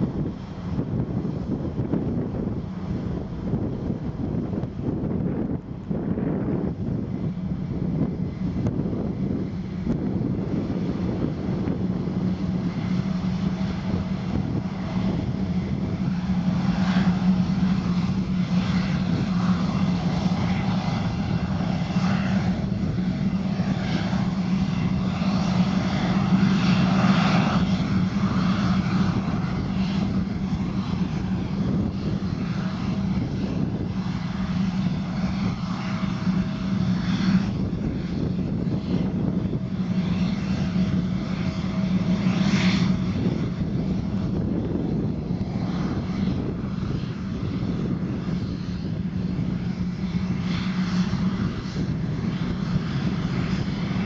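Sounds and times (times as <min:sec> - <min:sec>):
jet engines at taxi power: 0:00.0 - 0:54.0.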